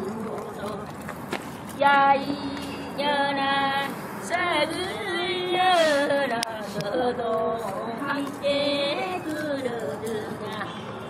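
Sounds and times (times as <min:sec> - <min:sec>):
women singing unaccompanied: 0:00.0 - 0:01.0, 0:01.8 - 0:11.0.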